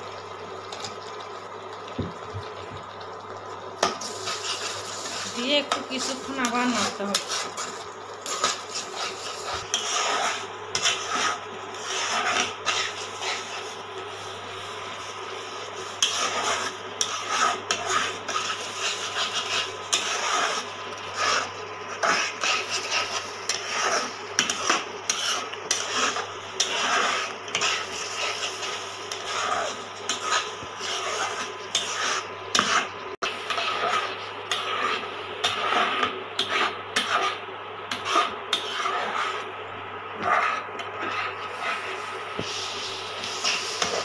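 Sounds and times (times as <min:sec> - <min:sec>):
spoon stirring in a metal pot: 0:03.8 - 0:42.6, 0:43.2 - 0:44.0.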